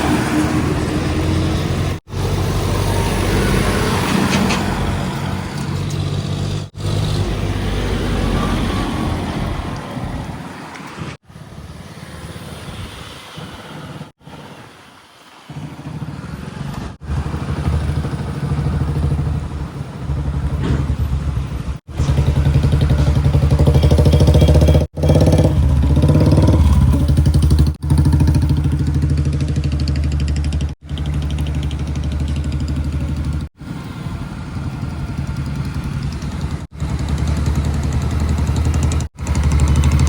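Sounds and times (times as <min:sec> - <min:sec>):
heavy diesel engines under load: 0:00.0 - 0:40.0.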